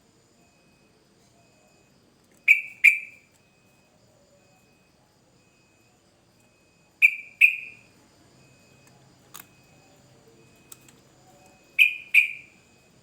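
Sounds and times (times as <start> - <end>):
faint high peeps: 0.4 - 13.0.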